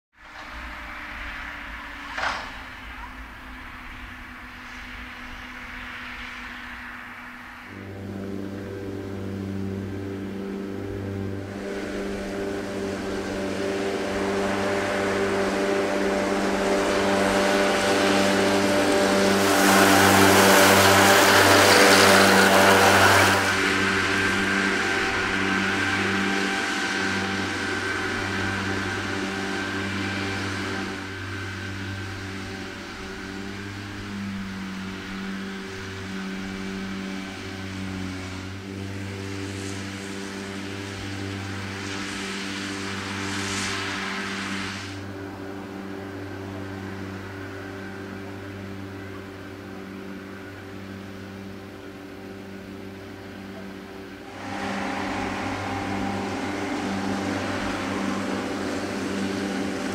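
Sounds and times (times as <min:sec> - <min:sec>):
tractor engine hum: 0:00.1 - 0:59.9
mowers hissing through grass: 0:00.2 - 0:59.9.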